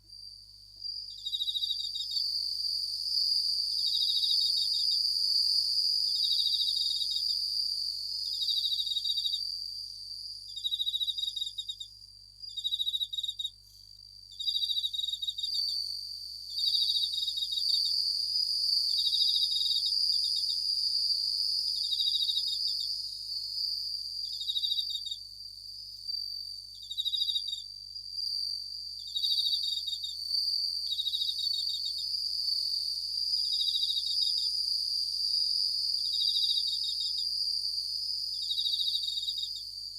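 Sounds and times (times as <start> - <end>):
crickets chirping in chorus: 0.0 - 39.9.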